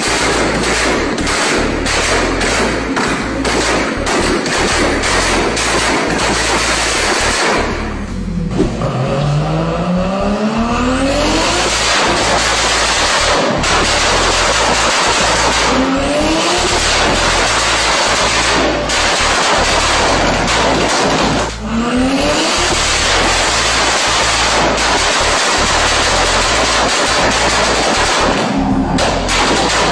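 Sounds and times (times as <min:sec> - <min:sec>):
car exhaust accelerating hard: 0:00.0 - 0:29.9.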